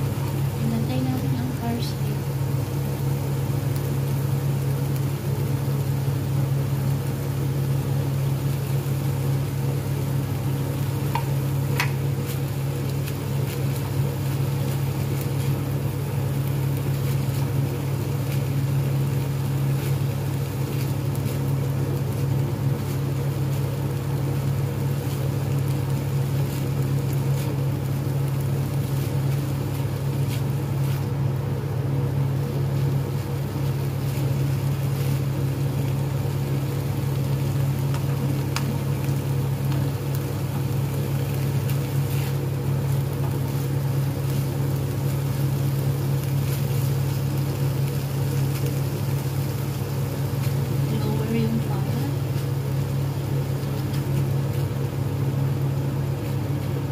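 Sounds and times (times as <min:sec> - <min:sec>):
meat sizzling in a frying pan: 0:00.0 - 0:56.9
steady low hum: 0:00.0 - 0:56.9.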